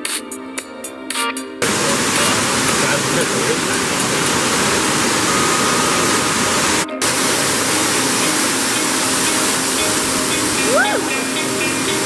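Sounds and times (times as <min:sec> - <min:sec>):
waterfall rushing: 0:01.6 - 0:12.0.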